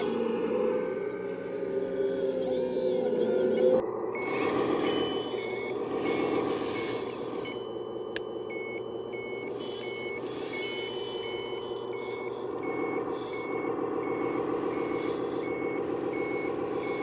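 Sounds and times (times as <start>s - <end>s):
reversing alarm beeping: 0.0s - 17.0s.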